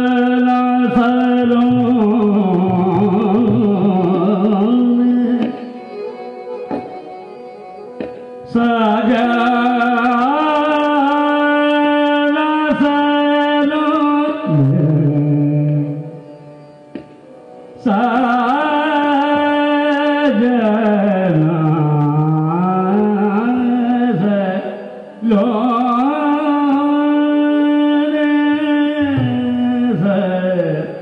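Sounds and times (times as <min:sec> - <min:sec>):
harmonium: 0:00.0 - 0:31.0
tabla: 0:00.0 - 0:31.0.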